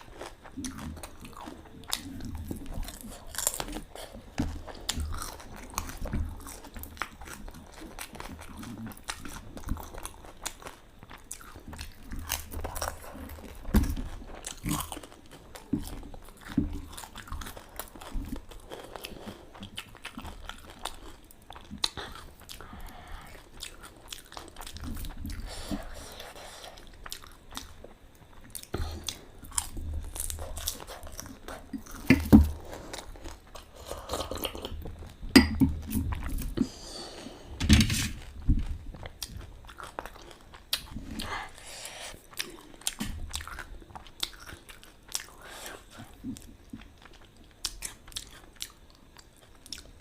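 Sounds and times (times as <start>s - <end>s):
crunching and chewing: 0.0s - 50.0s.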